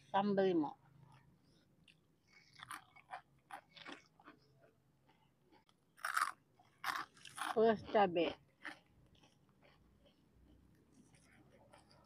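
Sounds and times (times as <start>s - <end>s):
chewing crisp fried food: 0.7s - 12.0s.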